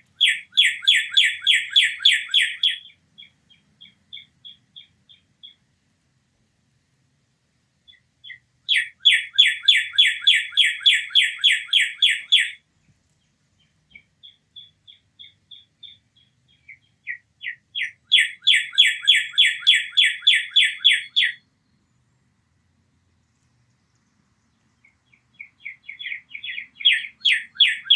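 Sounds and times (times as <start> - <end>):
songbird singing: 0.0 - 5.8, 7.8 - 27.9.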